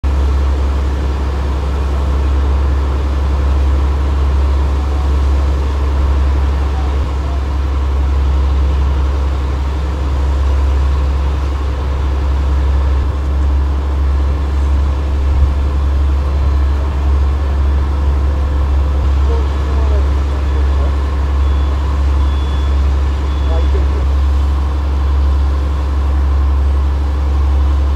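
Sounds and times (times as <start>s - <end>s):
water pump engines droning: 0.0s - 27.9s.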